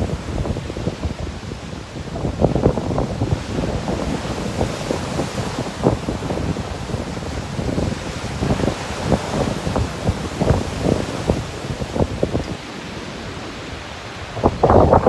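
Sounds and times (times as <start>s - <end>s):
sea surf washing: 0.0s - 15.0s
wind buffeting microphone: 0.0s - 15.0s.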